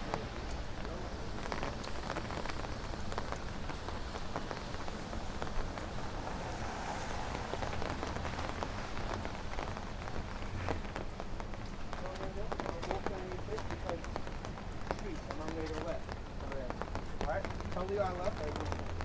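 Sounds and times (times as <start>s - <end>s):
rain falling on street: 0.0s - 19.0s
sharp raindrop hits: 0.0s - 19.0s.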